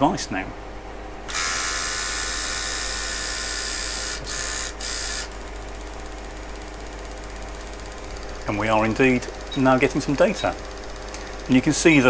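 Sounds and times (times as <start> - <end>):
tape drive high whine: 1.2 - 12.0.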